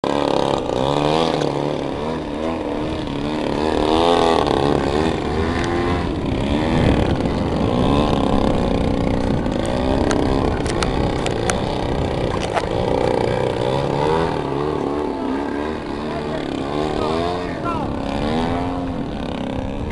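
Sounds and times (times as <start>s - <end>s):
model plane engines revving: 0.0s - 19.9s.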